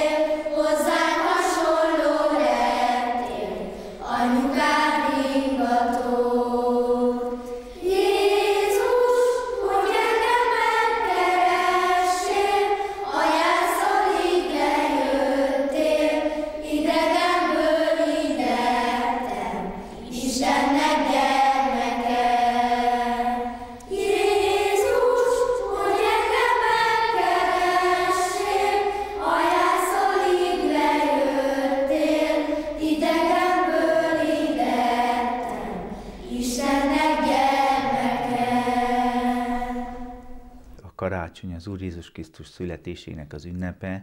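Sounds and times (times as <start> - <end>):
children's choir singing: 0.0 - 40.8.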